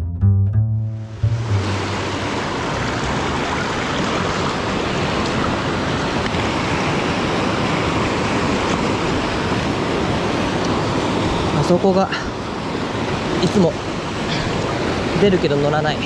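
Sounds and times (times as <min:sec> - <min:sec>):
stream rushing over rocks: 0:01.2 - 0:16.0.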